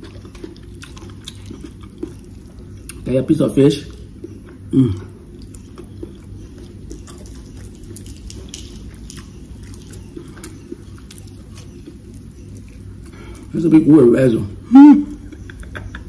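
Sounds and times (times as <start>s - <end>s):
person chewing food: 0.0s - 3.1s, 3.7s - 13.8s, 15.1s - 16.0s
closed-mouth hum: 0.0s - 16.0s.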